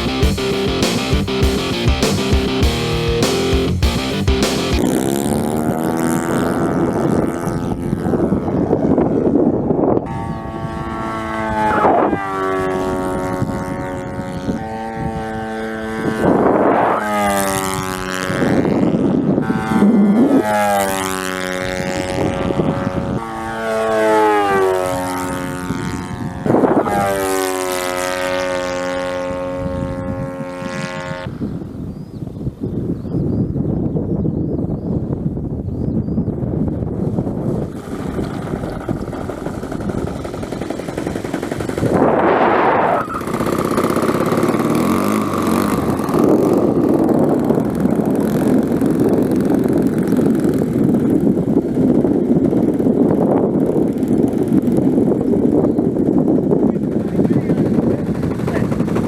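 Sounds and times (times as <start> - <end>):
model airplane engine passing: 4.7 - 32.0, 37.1 - 59.0
wind buffeting microphone: 4.8 - 59.0.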